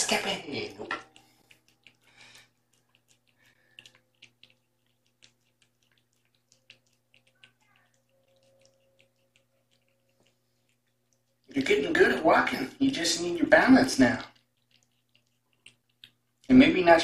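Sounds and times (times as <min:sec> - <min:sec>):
cat eating from a dish: 0:00.0 - 0:17.0.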